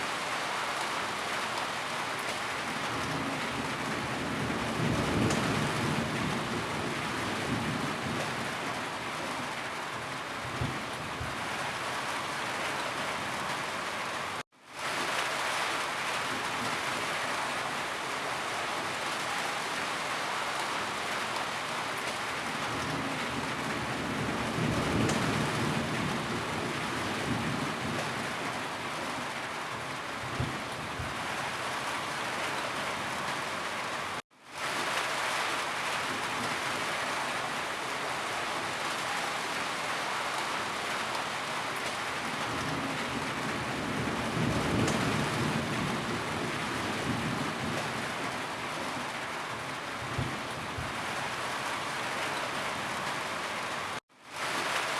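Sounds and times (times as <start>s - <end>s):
steady rainfall: 0.0s - 54.9s.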